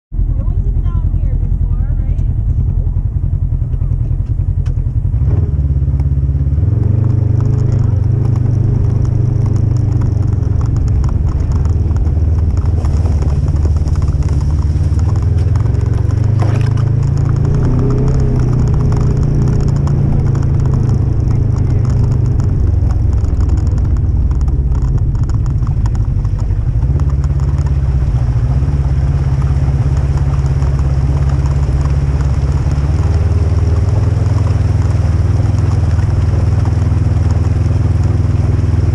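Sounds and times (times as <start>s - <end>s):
side-by-side engine running: 0.1s - 38.9s.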